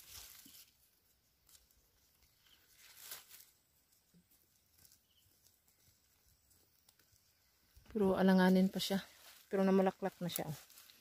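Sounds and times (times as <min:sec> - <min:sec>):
faint rustle: 0:00.0 - 0:11.0.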